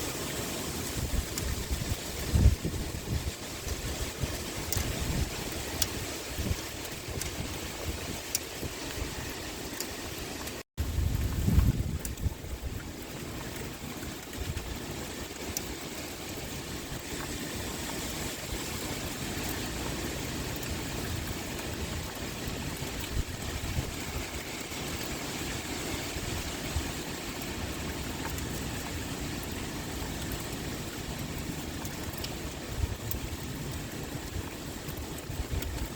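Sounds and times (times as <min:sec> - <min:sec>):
gusty wind: 0:00.0 - 0:13.2, 0:14.3 - 0:35.9
pouring rain: 0:00.0 - 0:35.9.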